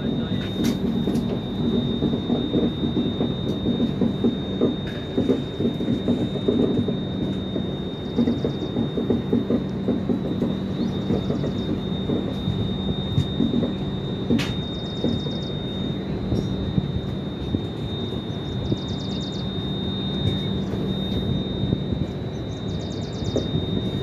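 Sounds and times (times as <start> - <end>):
thin high whine: 0.0 - 24.0
train wheels rumbling on rails: 0.0 - 24.0.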